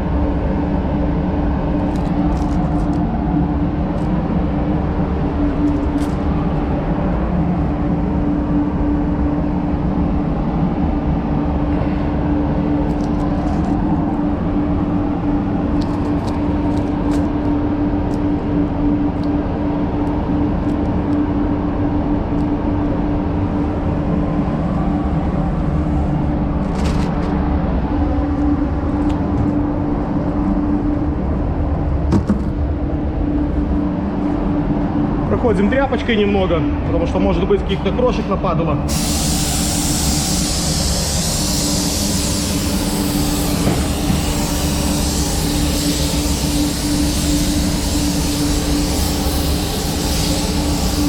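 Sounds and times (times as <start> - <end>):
ventilation fans roaring: 0.0 - 51.0.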